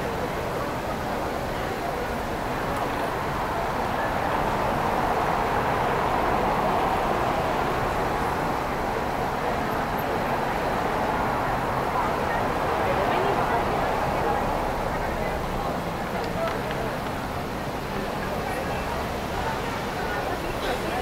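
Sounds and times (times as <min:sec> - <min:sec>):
passing cars: 0:00.0 - 0:21.0.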